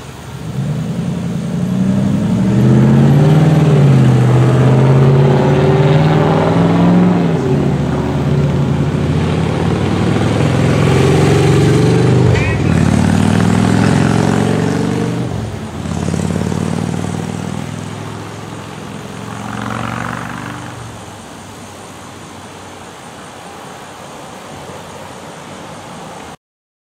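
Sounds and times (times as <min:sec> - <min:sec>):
cars driving past: 0:00.0 - 0:26.4
road noise: 0:00.0 - 0:26.4.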